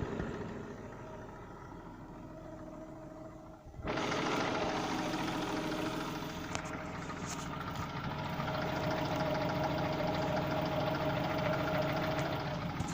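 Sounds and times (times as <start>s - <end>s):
engine idling with fast knock: 0.0s - 12.9s.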